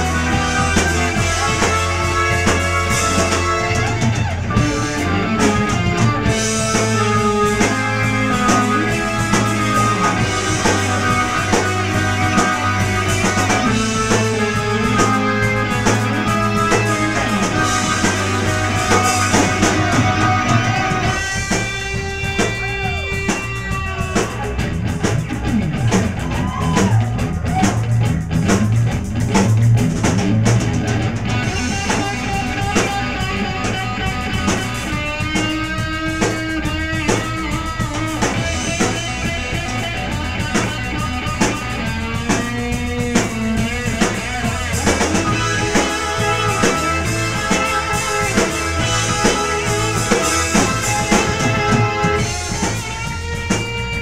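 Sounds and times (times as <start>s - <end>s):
bass guitar: 0.0s - 54.0s
drum kit: 0.0s - 54.0s
electric guitar lead: 0.0s - 54.0s.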